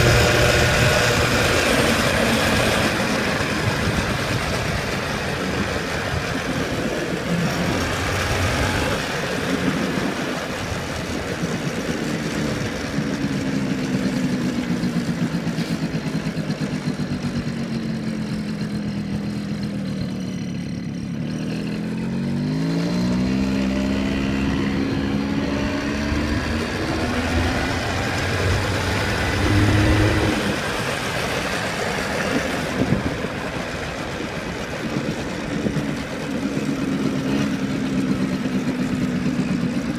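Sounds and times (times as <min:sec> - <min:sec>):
road and wind noise: 0:00.0 - 0:39.9
small vehicle engine running: 0:00.0 - 0:39.9.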